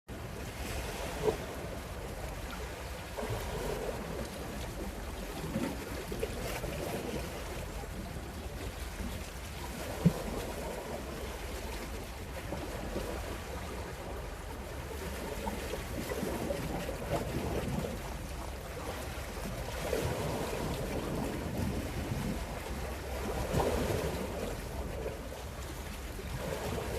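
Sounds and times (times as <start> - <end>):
sea water washing and lapping: 0.1 - 26.9
wind on microphone: 0.1 - 26.9.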